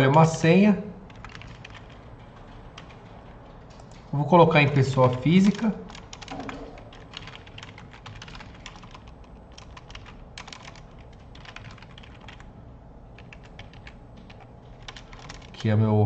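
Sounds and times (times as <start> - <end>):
typing on computer keyboard: 1.1 - 12.5, 13.1 - 15.8.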